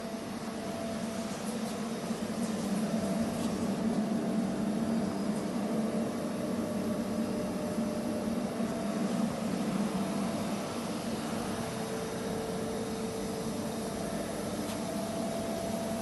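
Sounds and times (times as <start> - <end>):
machining centre humming: 0.0 - 16.0.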